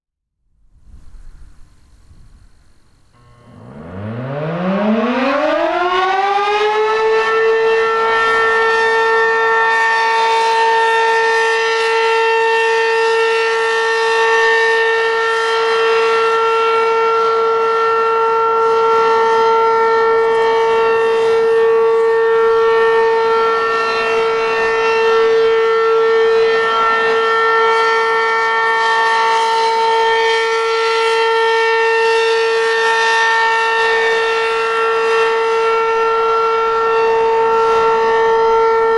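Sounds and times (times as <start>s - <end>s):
outdoor warning siren: 0.5s - 38.9s.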